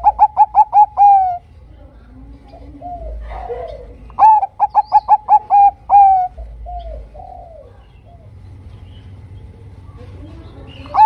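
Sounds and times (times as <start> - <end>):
dove singing: 0.0 - 11.0.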